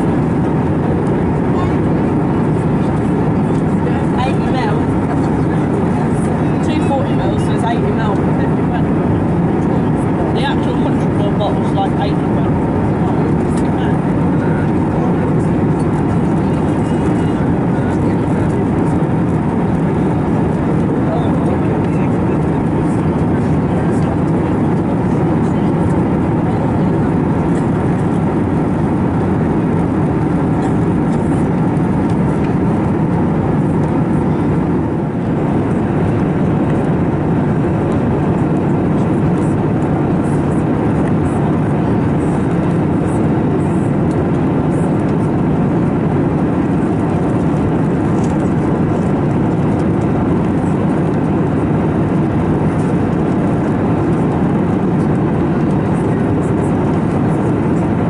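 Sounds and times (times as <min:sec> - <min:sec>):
airplane cabin noise: 0:00.0 - 0:58.0.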